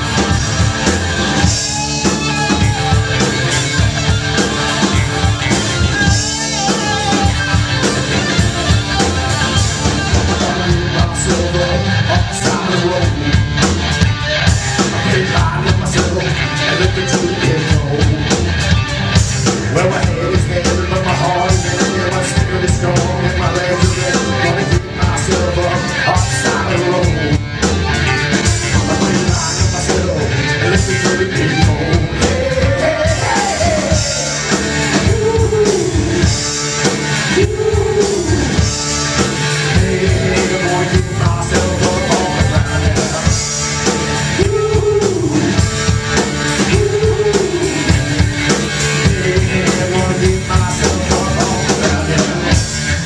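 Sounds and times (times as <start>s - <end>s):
electric guitar lead line: 0.0s - 53.0s
live rock band playing: 0.0s - 53.0s.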